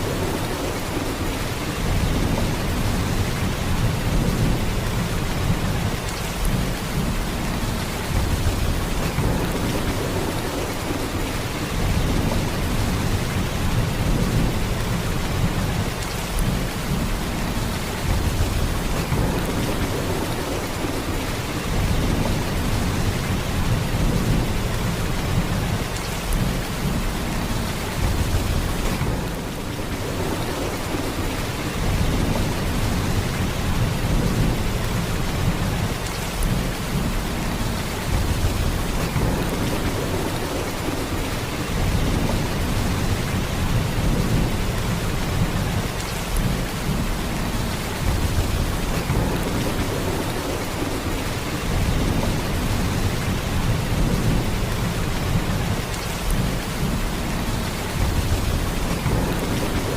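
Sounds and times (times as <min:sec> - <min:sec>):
heavy rain downpour: 0:00.0 - 0:59.9.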